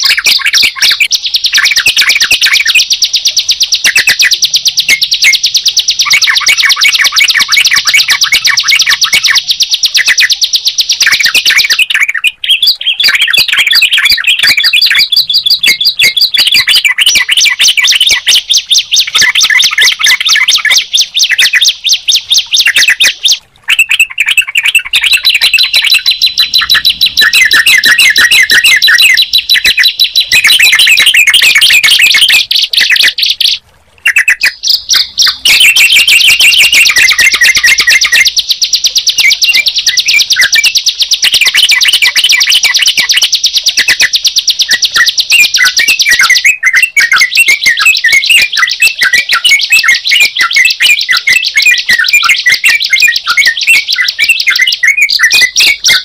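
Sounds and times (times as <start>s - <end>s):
birds chirping rapidly: 0.0s - 56.0s.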